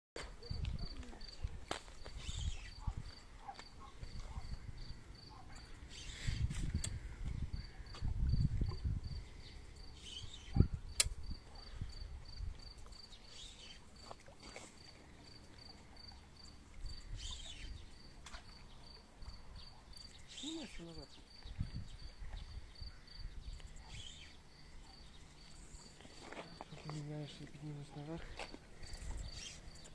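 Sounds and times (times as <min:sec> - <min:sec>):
cricket chirping: 0:00.2 - 0:29.9.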